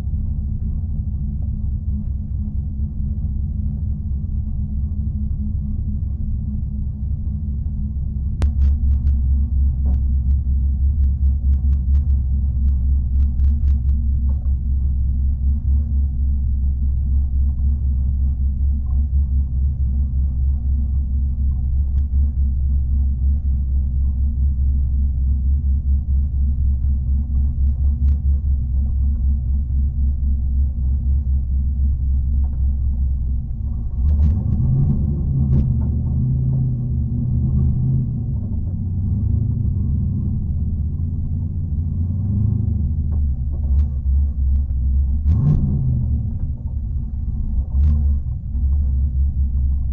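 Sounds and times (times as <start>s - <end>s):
car engine burbling at low revs: 0.0s - 49.9s.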